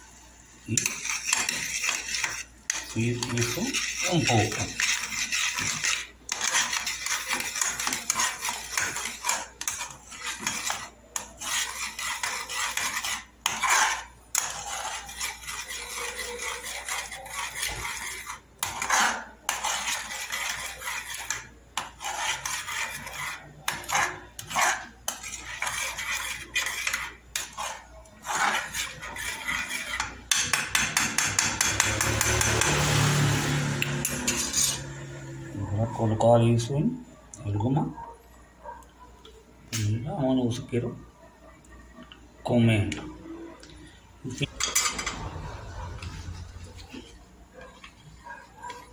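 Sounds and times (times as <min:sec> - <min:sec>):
metal spoon scraping saucepan: 0:00.7 - 0:36.4, 0:44.3 - 0:48.9.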